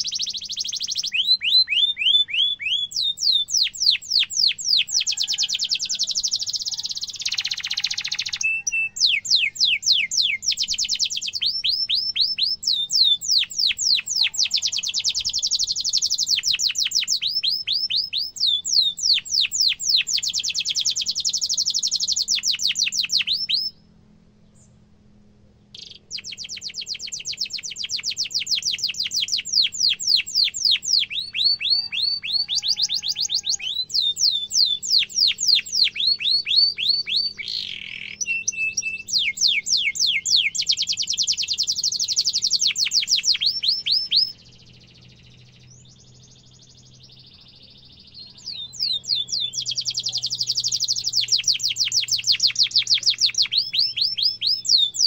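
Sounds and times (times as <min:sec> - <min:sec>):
canary singing trills: 0:00.0 - 0:24.7, 0:25.6 - 0:55.0.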